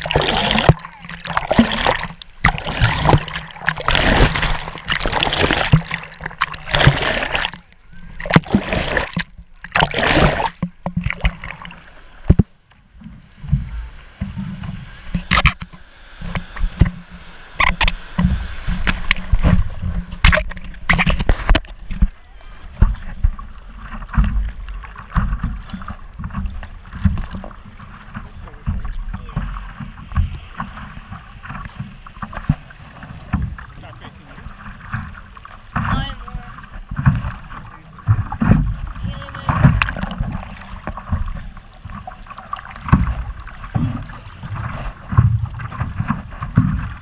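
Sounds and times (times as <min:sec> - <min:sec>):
seawater splashing and rushing: 0:00.0 - 0:47.0
water knocking against camera: 0:00.0 - 0:47.0
water lapping: 0:00.0 - 0:47.0.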